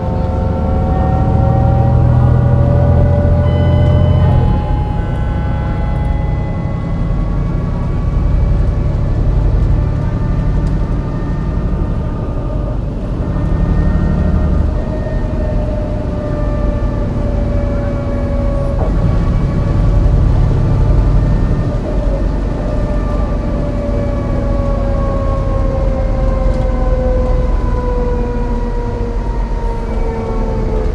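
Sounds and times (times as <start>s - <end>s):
bus engine misfiring under load: 0.0s - 25.3s
gearbox whining: 0.0s - 30.9s.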